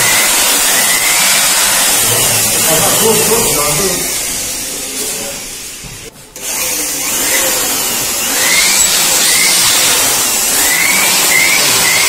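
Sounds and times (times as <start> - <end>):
electric air blower rushing: 0.0 - 12.0.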